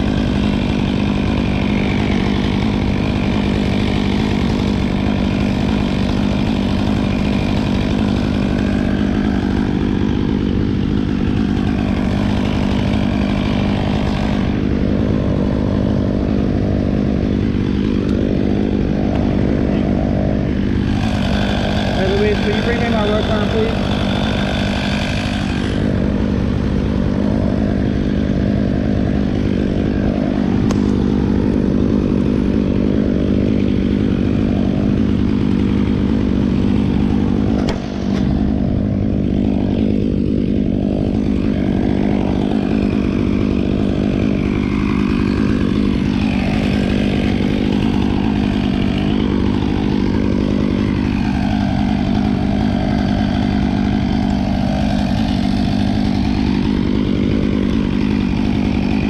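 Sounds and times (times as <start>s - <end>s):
small engine droning: 0.0s - 59.0s.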